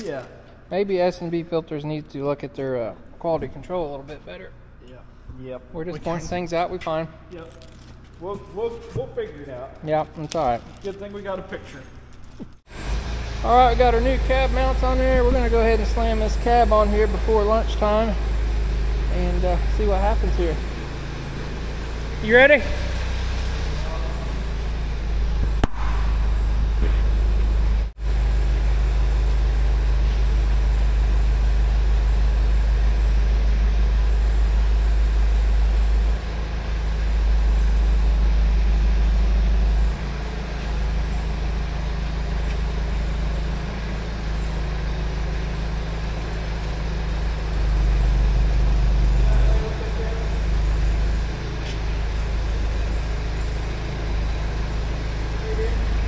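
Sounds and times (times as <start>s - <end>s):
forklift engine running under load: 10.7s - 56.0s.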